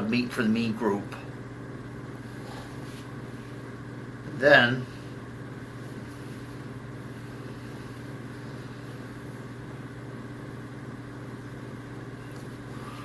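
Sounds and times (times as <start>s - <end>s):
low room equipment hum: 0.0s - 13.0s.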